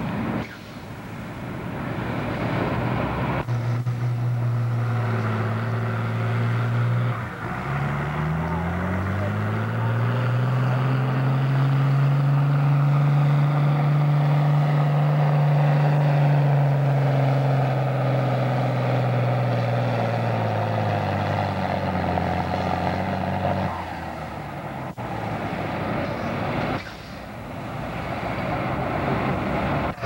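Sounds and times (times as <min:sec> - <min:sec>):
tractor diesel engine straining: 0:00.0 - 0:30.0.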